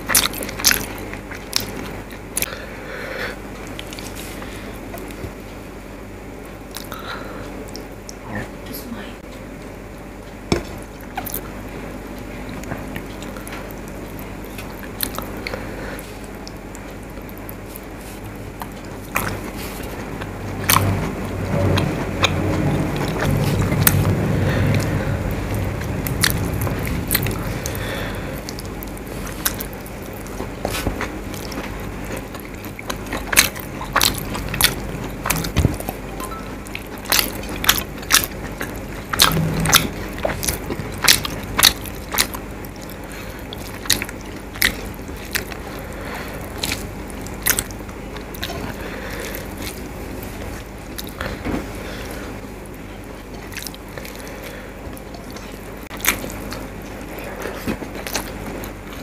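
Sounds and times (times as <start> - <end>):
chewing with mouth clicks: 0.0 - 2.6, 3.5 - 5.4, 6.7 - 7.0, 10.6 - 51.4, 52.0 - 59.0.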